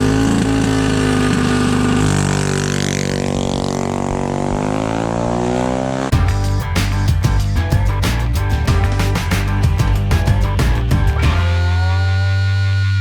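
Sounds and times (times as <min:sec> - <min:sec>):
mini bike engine running hard: 0:00.0 - 0:13.0.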